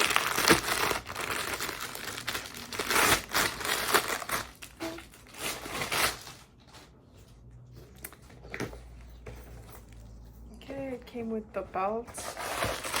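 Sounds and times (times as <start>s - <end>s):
crinkly packaging rustling: 0.0s - 13.0s.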